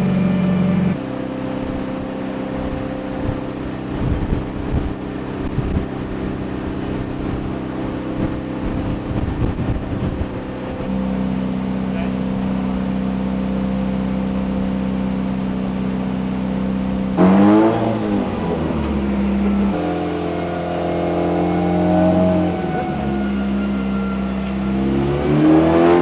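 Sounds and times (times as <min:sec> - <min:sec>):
car engine running and revving: 0:00.0 - 0:26.0.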